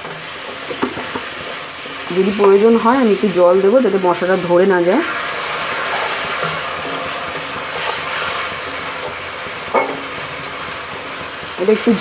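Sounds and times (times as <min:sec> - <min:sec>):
food sizzling in oil: 0:00.0 - 0:12.0
spatula stirring: 0:00.0 - 0:12.0.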